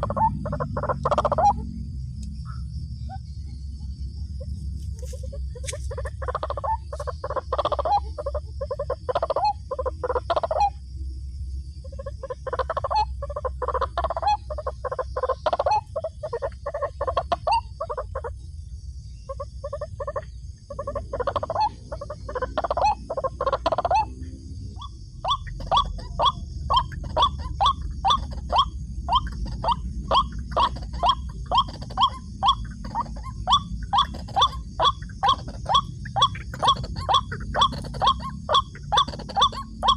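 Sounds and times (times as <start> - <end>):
bird calling croaking phrases: 0.0 - 39.9
high insect drone: 0.0 - 39.9.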